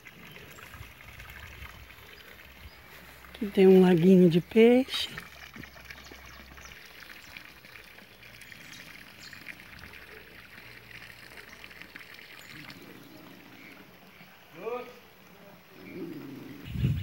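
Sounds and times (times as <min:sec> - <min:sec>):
water pouring into pond: 0:00.0 - 0:17.0.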